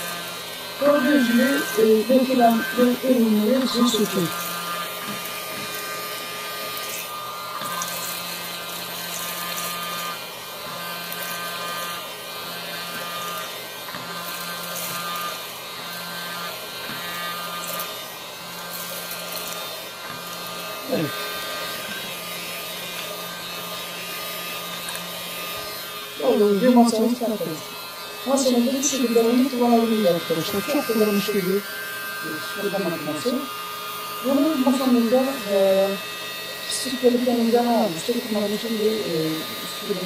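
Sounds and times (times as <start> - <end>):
small vacuum cleaner motor whining: 0.0 - 40.0.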